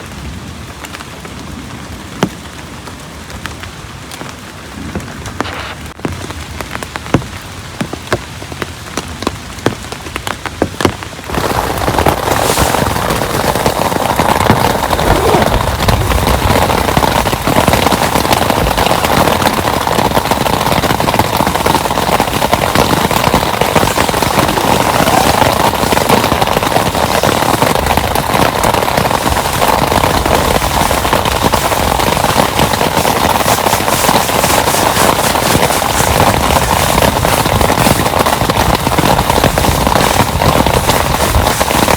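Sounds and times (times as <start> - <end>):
rain downpour: 0.0 - 41.9.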